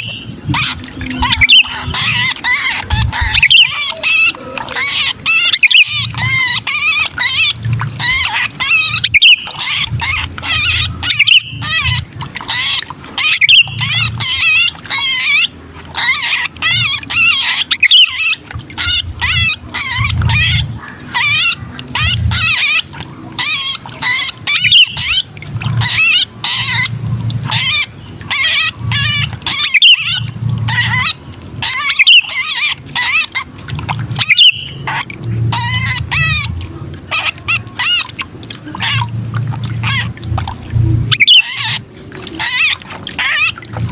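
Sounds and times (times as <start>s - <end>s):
bulbuls scolding distress calls: 0.0s - 43.9s.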